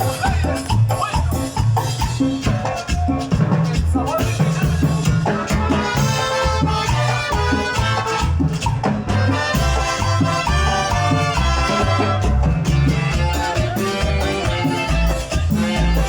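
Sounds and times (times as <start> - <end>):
latin dance orchestra playing: 0.0 - 16.0.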